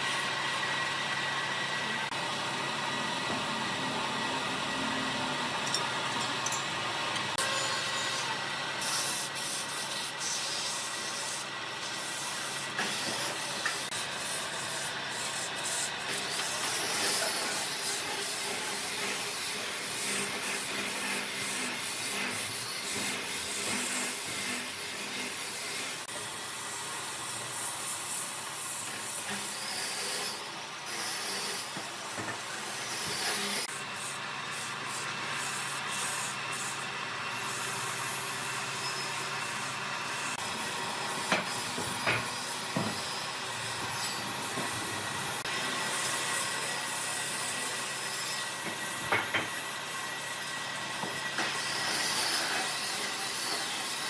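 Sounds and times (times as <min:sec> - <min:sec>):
power sander rubbing: 0:07.3 - 0:54.0.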